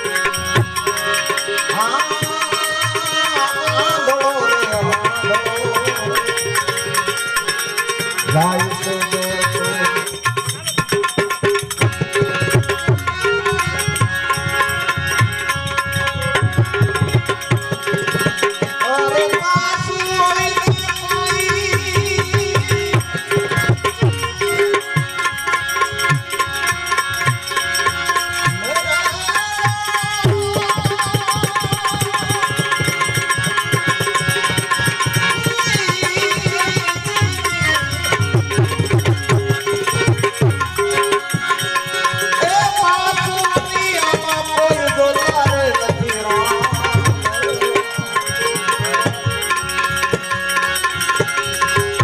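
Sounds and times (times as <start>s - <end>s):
tabla rhythm: 0.0s - 52.0s.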